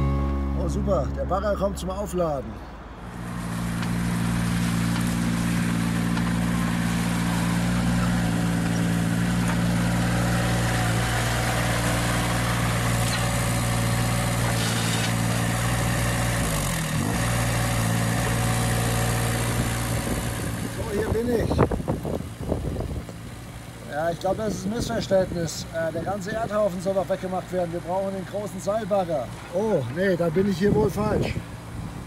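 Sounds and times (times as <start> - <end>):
diesel excavator idling: 2.6 - 32.0.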